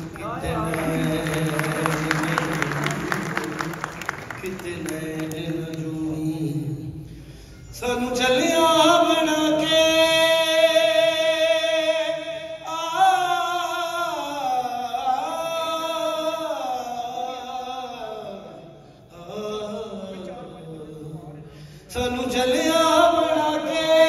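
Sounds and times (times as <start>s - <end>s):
man singing into microphone: 0.0s - 7.1s, 7.7s - 24.0s.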